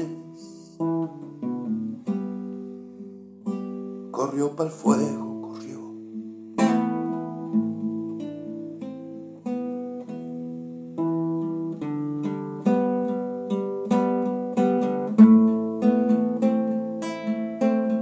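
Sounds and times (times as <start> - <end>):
classical guitar playing: 0.0 - 18.0.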